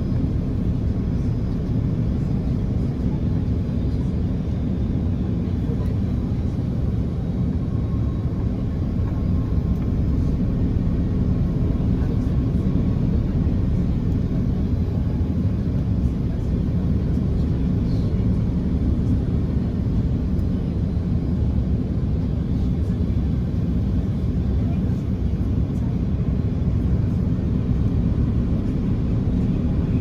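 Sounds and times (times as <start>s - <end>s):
airliner cabin drone: 0.0s - 30.0s.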